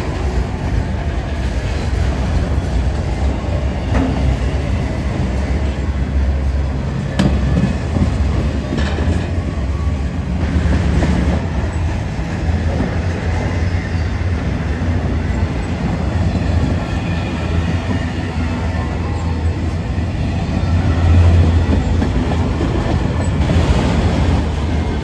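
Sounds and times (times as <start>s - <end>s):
freight train rumbling: 0.0s - 25.0s
train wheels clicking: 0.0s - 25.0s.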